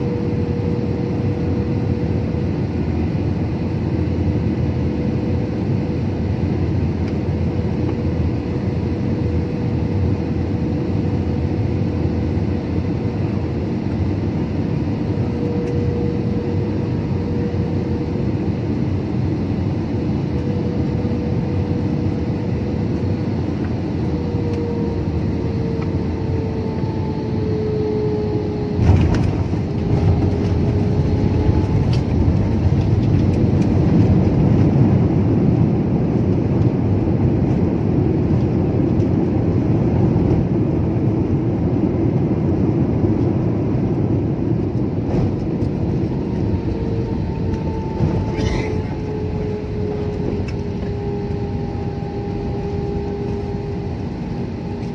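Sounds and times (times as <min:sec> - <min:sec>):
jet engine and airflow noise: 0:00.0 - 0:54.9.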